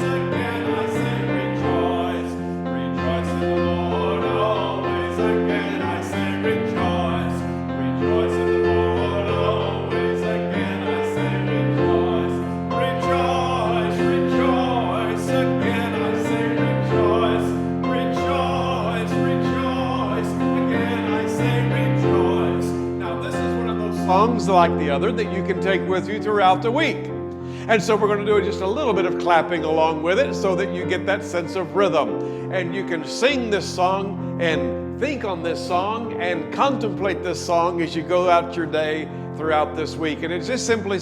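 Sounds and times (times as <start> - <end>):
congregation singing a hymn: 0.0 - 41.0
piano accompaniment: 0.0 - 41.0.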